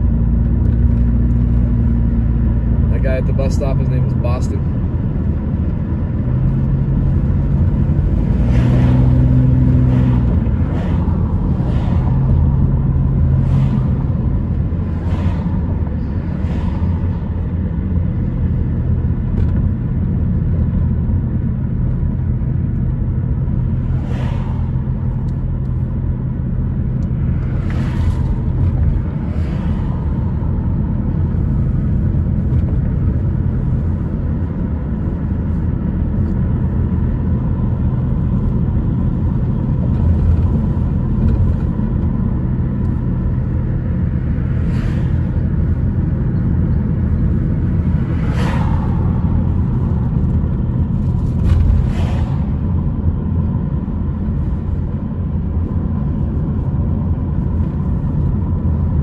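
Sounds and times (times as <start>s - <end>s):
car road noise rumble: 0.0s - 59.0s
constant low hum: 0.0s - 59.0s.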